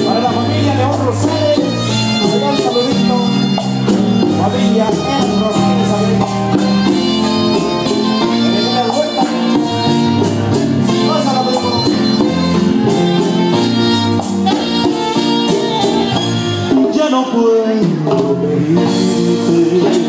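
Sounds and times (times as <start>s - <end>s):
latin band music: 0.0s - 20.0s.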